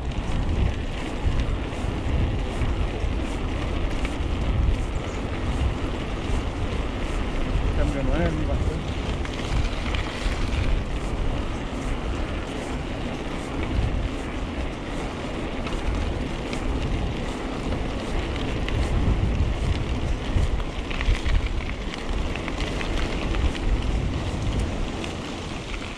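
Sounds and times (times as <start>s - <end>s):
mountain bike rattling on rough trail: 0.0s - 25.9s
wind rumbling on microphone: 0.0s - 25.9s.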